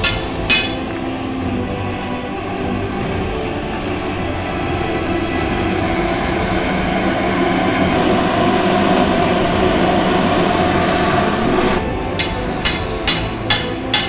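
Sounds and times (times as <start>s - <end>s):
propane torch roaring: 0.0s - 14.0s.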